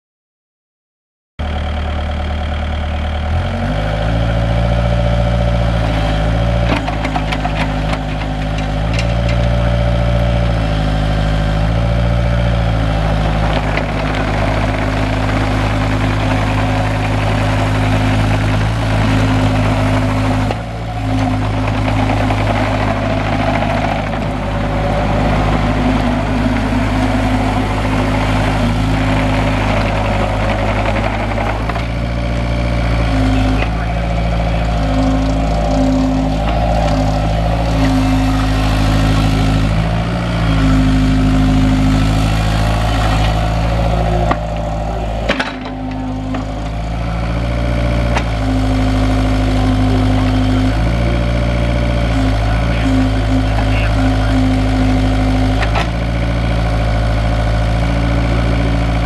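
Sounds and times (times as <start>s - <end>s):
excavator diesel engine running: 1.4s - 59.0s.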